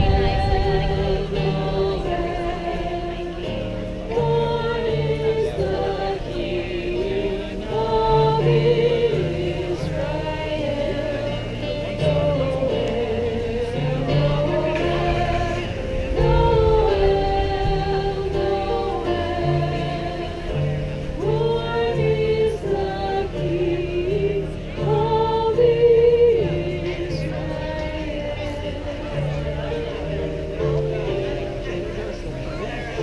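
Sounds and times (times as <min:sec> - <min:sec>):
keyboard sustained notes: 0:00.0 - 0:33.0
women singing in harmony: 0:00.0 - 0:33.0.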